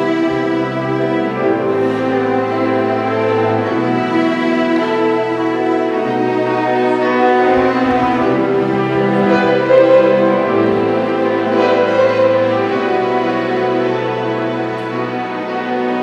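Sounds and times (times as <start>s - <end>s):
slow orchestral string music: 0.0s - 16.0s.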